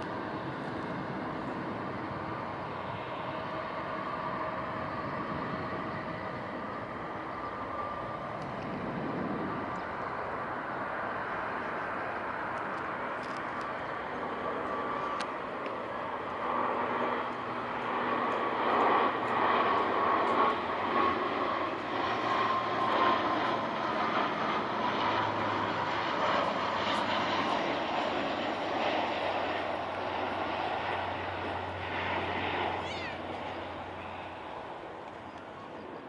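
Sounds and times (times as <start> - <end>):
airliner engines passing: 0.0 - 36.0
engine whine: 0.0 - 36.0.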